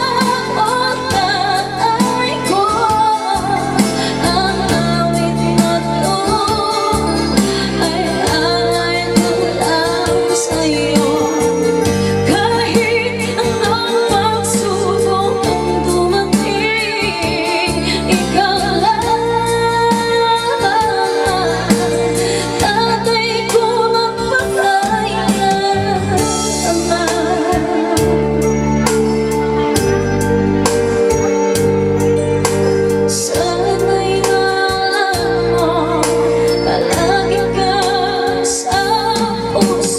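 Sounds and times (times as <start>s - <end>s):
gospel song over loudspeakers: 0.0s - 39.9s.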